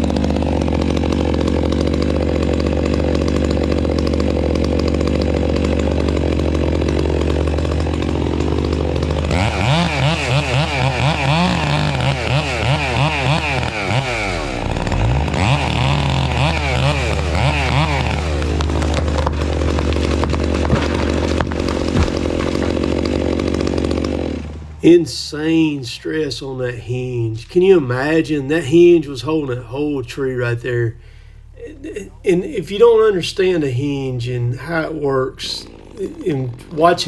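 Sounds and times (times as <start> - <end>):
chainsaw cutting into tree: 0.0 - 37.0
low engine hum: 0.0 - 37.0.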